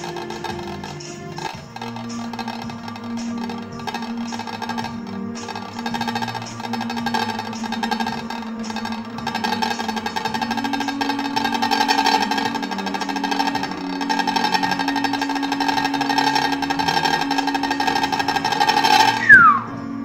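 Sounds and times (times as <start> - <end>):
fast drum roll: 0.0 - 19.7
held notes: 0.0 - 20.0
loud downward glide: 0.0 - 20.0.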